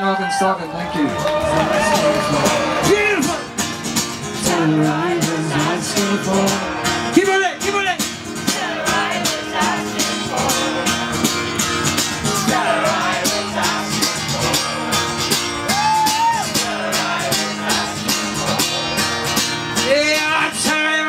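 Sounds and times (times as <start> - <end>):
acoustic guitar strumming: 1.4 - 21.0.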